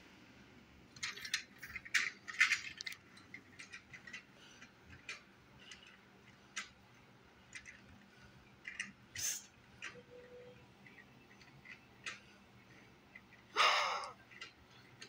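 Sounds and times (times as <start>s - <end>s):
toy train clicking and rattling: 0.9s - 15.0s.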